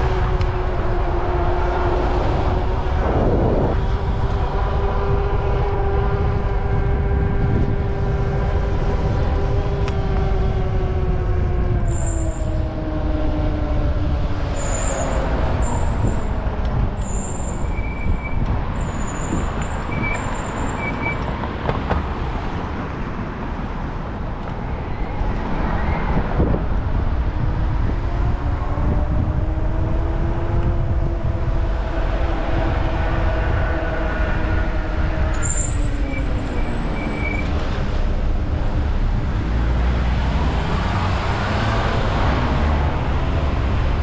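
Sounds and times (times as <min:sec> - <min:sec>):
urban traffic rumble: 0:00.0 - 0:44.0.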